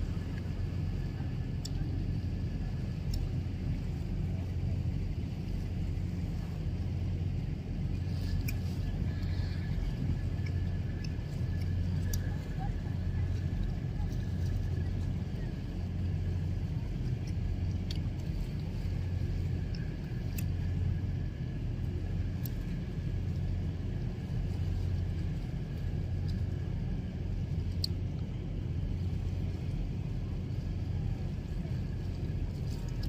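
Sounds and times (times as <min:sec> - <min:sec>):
faint steady whine: 0:00.0 - 0:33.0
low engine rumble: 0:00.0 - 0:33.0.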